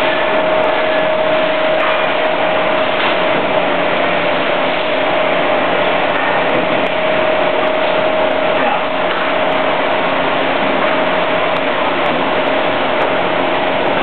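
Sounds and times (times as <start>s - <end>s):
production line machinery running: 0.0s - 14.0s
steady machine whine: 0.0s - 14.0s.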